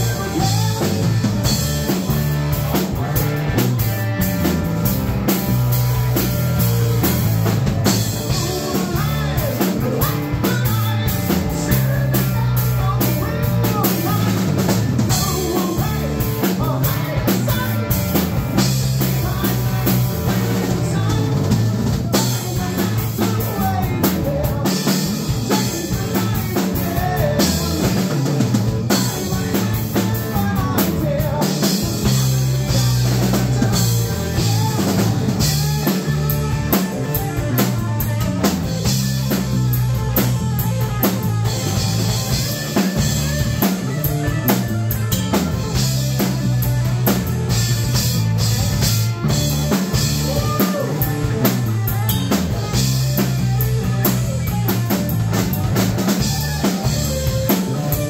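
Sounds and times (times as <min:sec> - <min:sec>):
electric bass line: 0:00.0 - 0:58.0
electric guitar: 0:00.0 - 0:58.0.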